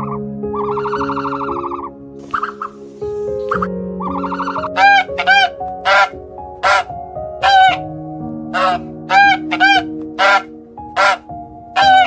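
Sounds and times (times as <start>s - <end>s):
swan calling: 0.0s - 2.8s, 3.4s - 7.9s, 8.5s - 12.0s
soft background music: 0.0s - 12.0s.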